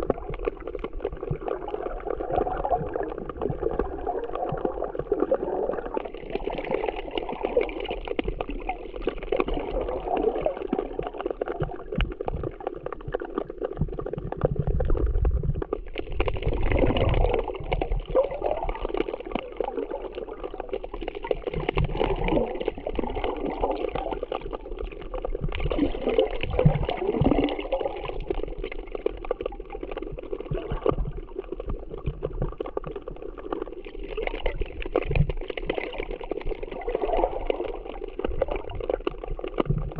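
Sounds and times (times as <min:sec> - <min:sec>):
sea water sloshing and gurgling: 0:00.0 - 0:39.9.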